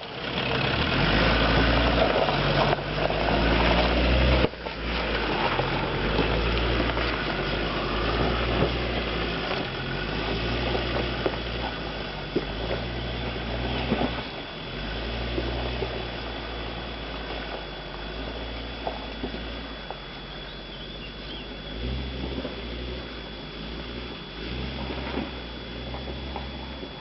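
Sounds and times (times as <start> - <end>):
diesel engine at low revs: 0.0 - 27.0.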